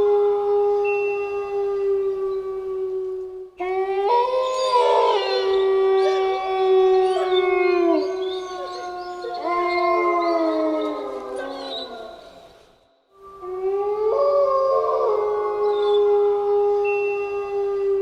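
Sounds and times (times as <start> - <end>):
wolves howling in chorus: 0.0 - 18.0.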